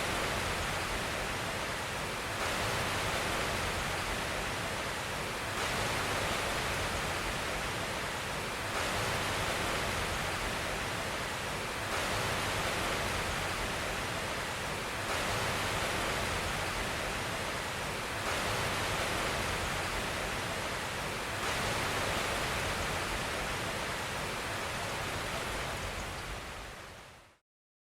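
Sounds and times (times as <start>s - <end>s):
steady hiss of noise: 0.0s - 27.4s.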